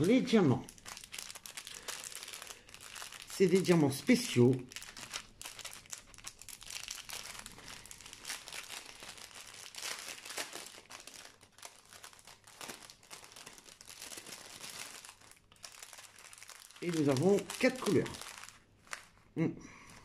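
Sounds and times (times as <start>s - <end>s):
plastic bags crinkling: 0.0s - 19.2s.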